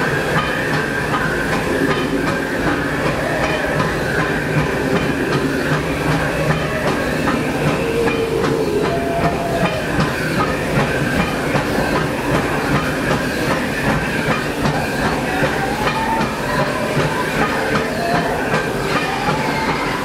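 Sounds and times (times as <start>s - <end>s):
steam hiss: 0.0s - 20.0s
steam locomotive rumble and clatter: 0.0s - 20.0s.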